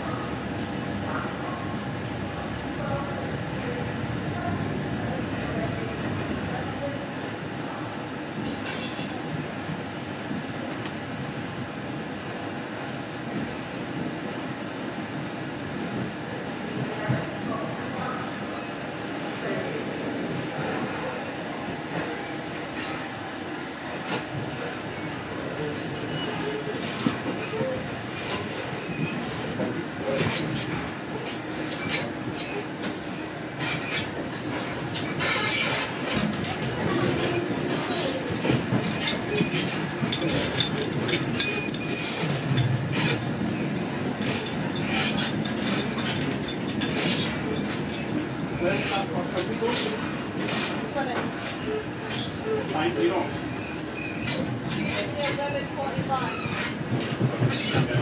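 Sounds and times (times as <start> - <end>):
train rumble and hiss: 0.0 - 58.0.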